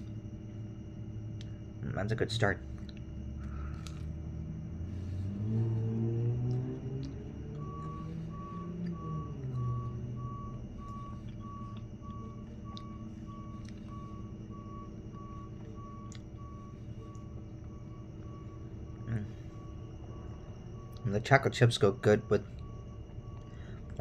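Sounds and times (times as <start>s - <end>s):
backup alarm beeping: 0.0s - 24.0s
truck engine rumble: 0.0s - 24.0s.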